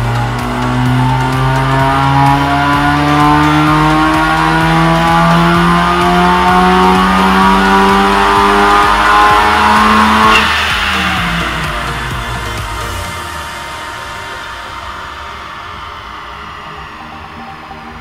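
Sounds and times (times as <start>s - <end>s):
car engine at full throttle: 0.0s - 18.0s.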